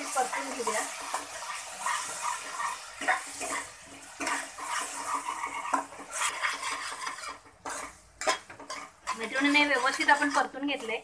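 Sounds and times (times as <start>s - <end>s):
metal spatula scraping pan: 0.0s - 11.0s.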